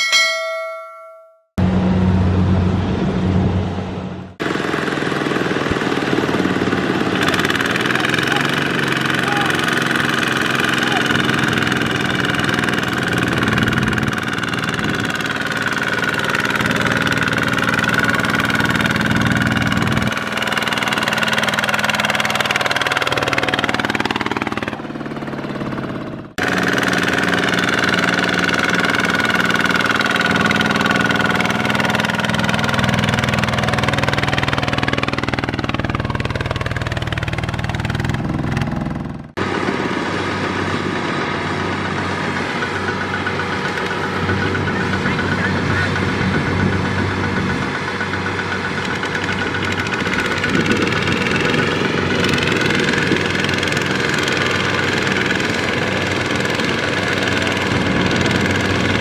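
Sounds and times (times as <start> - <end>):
diesel tractor engine running: 1.6 - 59.0.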